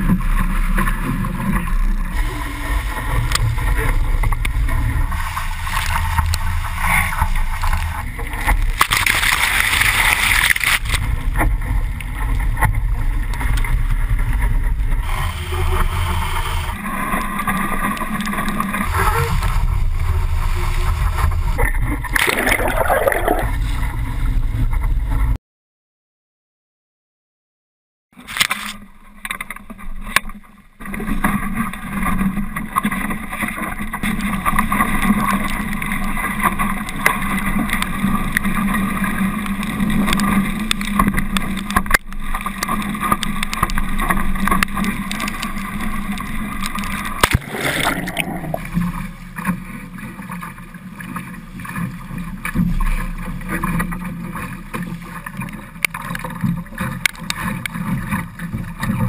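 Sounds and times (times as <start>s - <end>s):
water splashing along hull: 0.0s - 25.4s, 28.2s - 59.0s.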